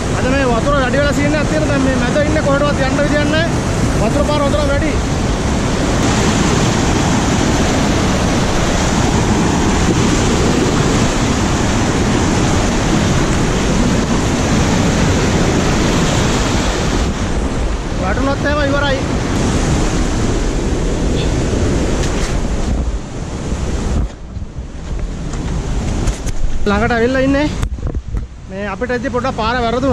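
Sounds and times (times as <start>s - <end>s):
stream rushing over rocks: 0.0s - 29.9s.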